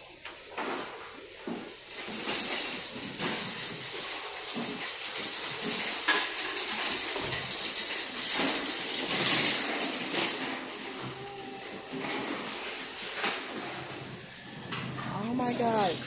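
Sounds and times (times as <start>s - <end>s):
store noise hiss: 0.0s - 16.0s
shopping carts rattling on tiles: 0.4s - 16.0s.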